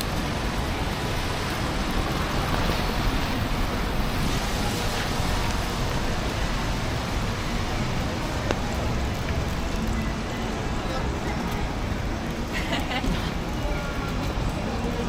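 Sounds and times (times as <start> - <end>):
traffic: 0.0 - 15.0
wind: 0.0 - 15.0.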